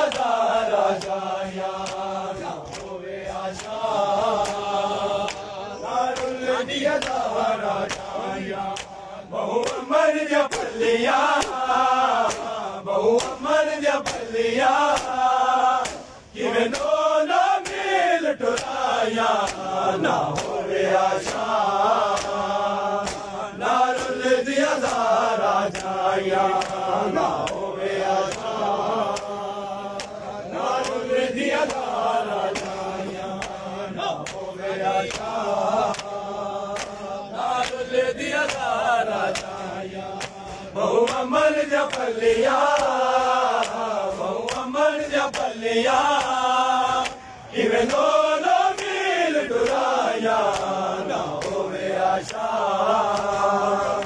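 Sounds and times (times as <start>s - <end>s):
hand slaps on chests: 0.0s - 54.0s
male voices chanting a lament: 0.0s - 54.0s.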